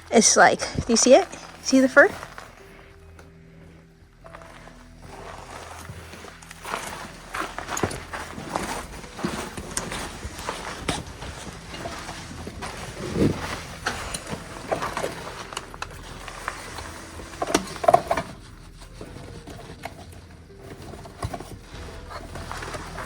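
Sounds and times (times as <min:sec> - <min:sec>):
footsteps on rocky trail: 0:00.3 - 0:23.0.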